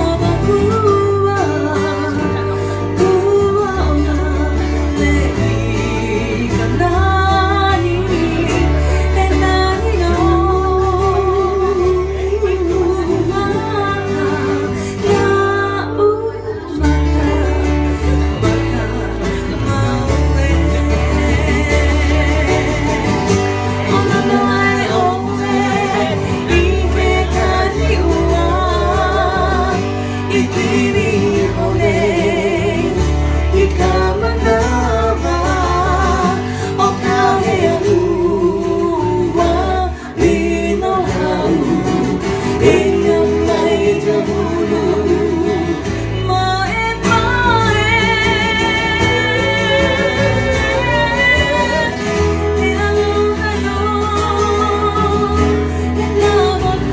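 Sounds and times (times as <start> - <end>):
acoustic guitars strumming: 0.0 - 56.9
man singing with vibrato: 0.0 - 56.9.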